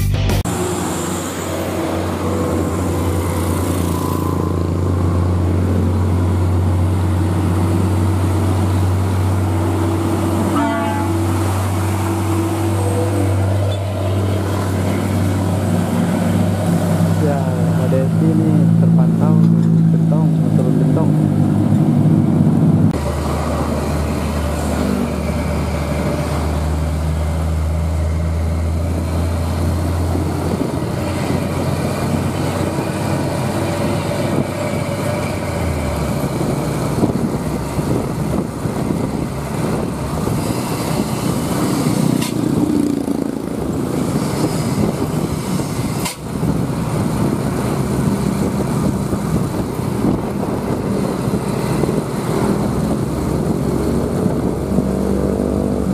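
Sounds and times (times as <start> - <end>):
truck engine drone: 0.0 - 55.9
wind and road noise: 0.4 - 55.9.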